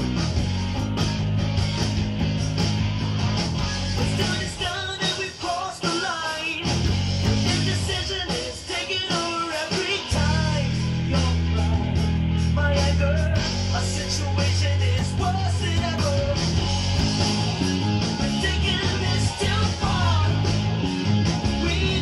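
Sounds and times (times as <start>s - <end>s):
electric bass plucked: 0.0s - 5.1s, 6.6s - 8.6s, 10.0s - 22.0s
rock band with singing: 0.0s - 22.0s.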